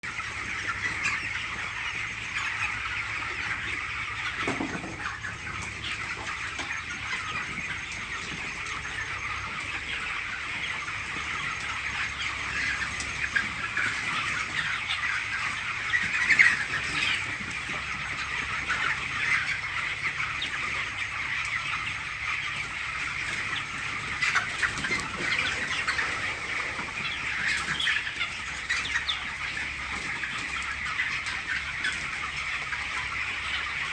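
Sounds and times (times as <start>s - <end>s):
chickens clucking and chirping: 0.0s - 33.9s
chicken squawk: 0.1s - 33.9s.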